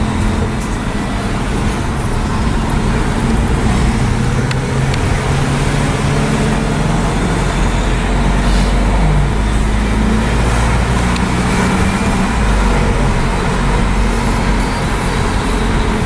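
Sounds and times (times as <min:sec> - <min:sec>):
car engines in traffic: 0:00.0 - 0:16.0.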